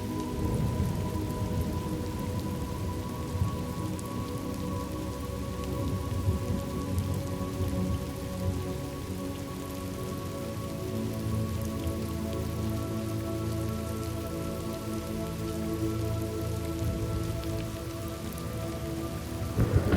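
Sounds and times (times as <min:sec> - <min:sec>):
soft musical drone: 0:00.0 - 0:19.9
steady rain falling: 0:00.0 - 0:19.9.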